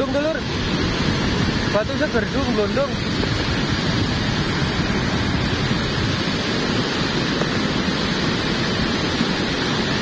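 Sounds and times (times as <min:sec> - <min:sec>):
mudflow rushing roar: 0:00.0 - 0:10.0.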